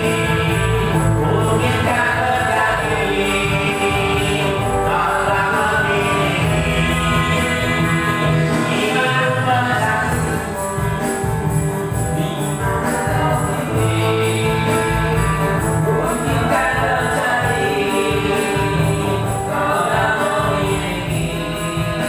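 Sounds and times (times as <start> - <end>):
band playing pop song live: 0.0 - 22.0
man singing lead: 0.0 - 22.0.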